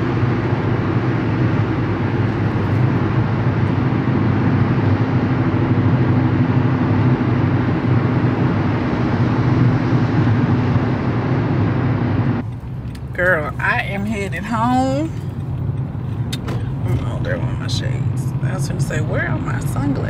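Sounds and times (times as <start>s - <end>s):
low engine hum: 0.0s - 20.0s
tyre and road noise: 0.0s - 20.0s.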